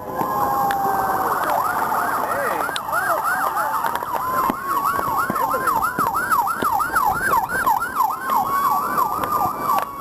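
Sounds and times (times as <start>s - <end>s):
siren slow wail: 0.0s - 10.0s
siren yelping rapidly: 1.0s - 10.0s.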